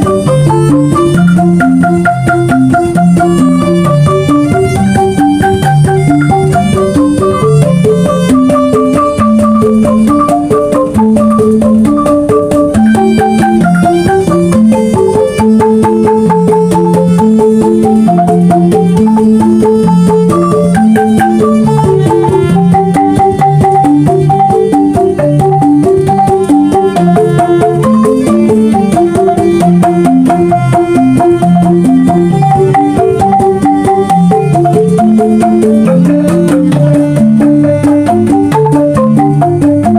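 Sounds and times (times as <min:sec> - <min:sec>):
percussion steady beat: 0:00.0 - 0:39.9
repeating lower melody: 0:00.0 - 0:39.9
struck bamboo notes: 0:00.0 - 0:39.9.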